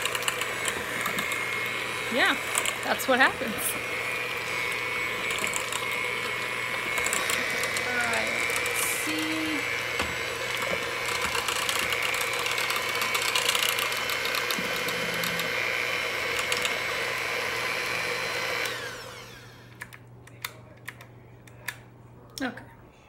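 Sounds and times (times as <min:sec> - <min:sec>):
electric hand mixer running: 0:00.0 - 0:19.9.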